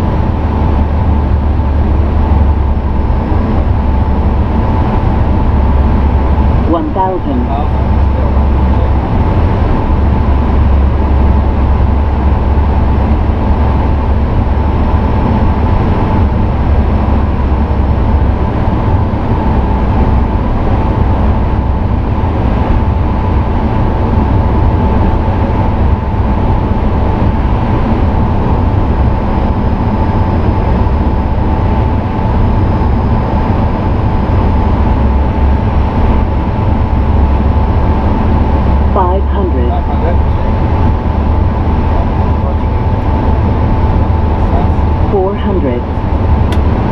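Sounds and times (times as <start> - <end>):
low rumble of airflow and engines: 0.0 - 46.9
steady high hum: 0.0 - 46.9.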